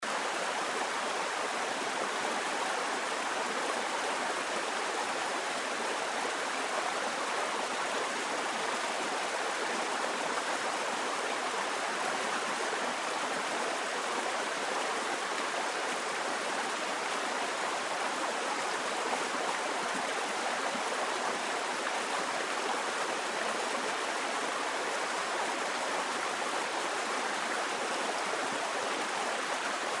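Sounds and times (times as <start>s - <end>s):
fast-flowing river rushing: 0.1s - 30.0s.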